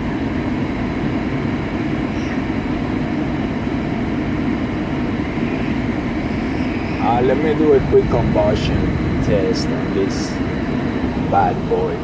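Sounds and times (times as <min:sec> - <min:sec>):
gas furnace low rumble: 0:00.0 - 0:12.0.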